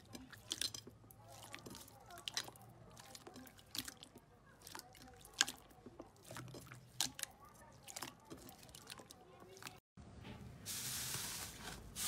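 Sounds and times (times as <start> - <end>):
wet slime squishes: 0.0 - 9.9.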